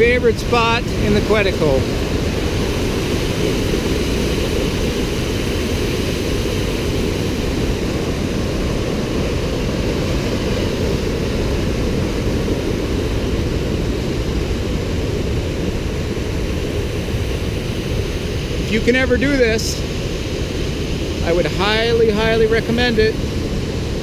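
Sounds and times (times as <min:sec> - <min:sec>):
rushing water roar: 0:00.0 - 0:24.0.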